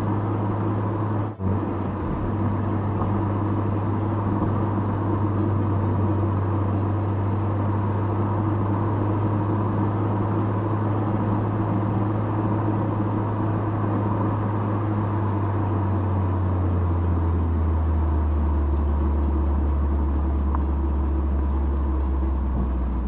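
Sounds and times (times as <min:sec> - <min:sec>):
car engine droning at cruise: 0:00.0 - 0:23.0.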